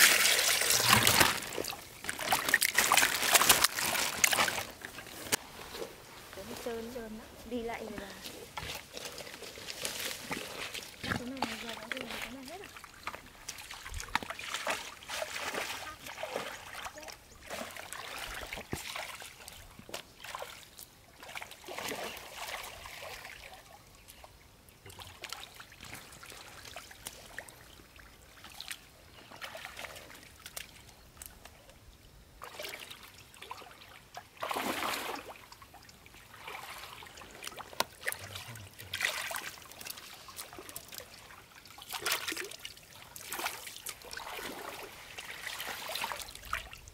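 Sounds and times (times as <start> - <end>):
pond water splashing: 0.0 - 46.9.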